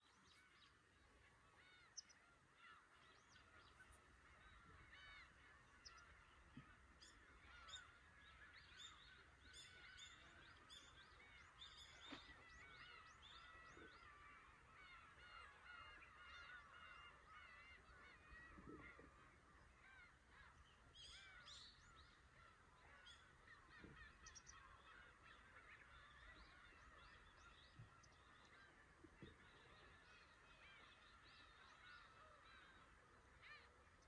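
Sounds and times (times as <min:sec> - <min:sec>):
flock of gulls calling: 0:00.0 - 0:34.0.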